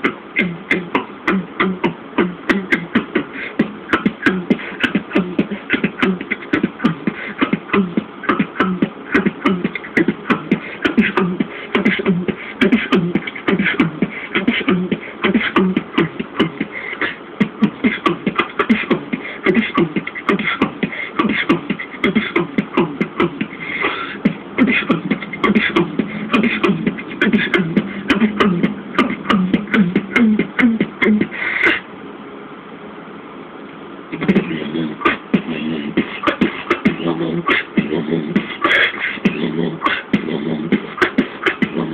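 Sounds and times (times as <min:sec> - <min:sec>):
beatboxing clicks and hits: 0:00.0 - 0:31.9, 0:34.1 - 0:41.9
low hum: 0:00.0 - 0:41.9.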